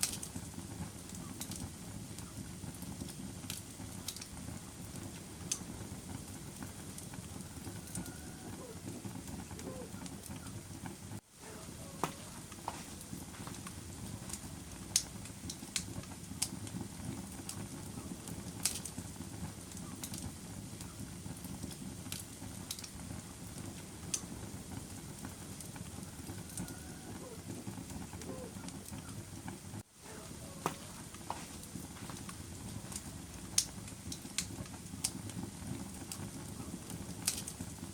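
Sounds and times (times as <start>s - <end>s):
fire flames rumbling: 0.0s - 37.9s
logs crackling and popping: 0.0s - 37.9s.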